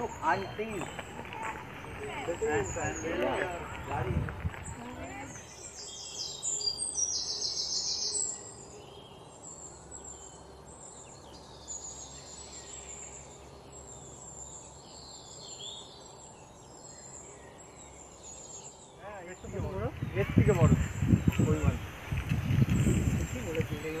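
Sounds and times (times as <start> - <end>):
low outdoor background: 0.0 - 24.0
songbirds chirping: 0.0 - 24.0.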